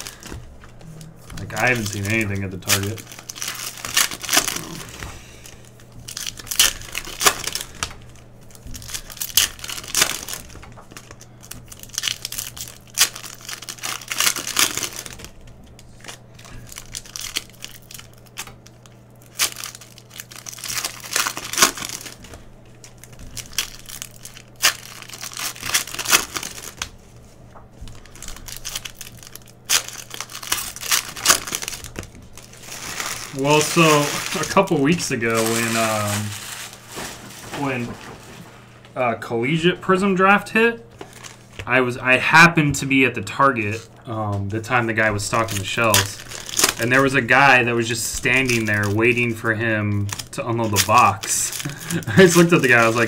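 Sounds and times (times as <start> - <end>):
foil wrappers crinkling and tearing: 0.0 - 38.6, 40.0 - 53.0.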